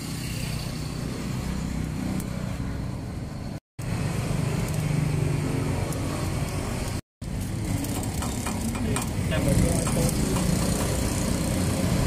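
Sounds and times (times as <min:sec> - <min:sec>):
street traffic engines humming: 0:00.0 - 0:12.0.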